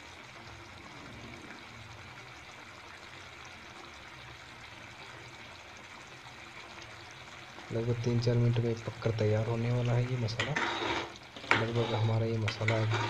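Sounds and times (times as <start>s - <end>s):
gravy bubbling and sizzling: 0.0s - 13.0s.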